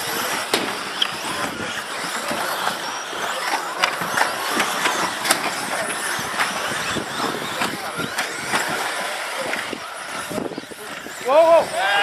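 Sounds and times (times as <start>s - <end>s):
model car motors and tyres: 0.0s - 12.0s.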